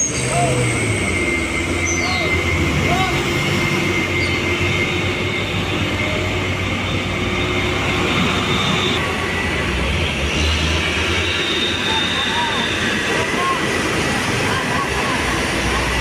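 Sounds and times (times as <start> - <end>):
diesel truck engines running: 0.0 - 16.0
heavy traffic passing: 0.0 - 16.0.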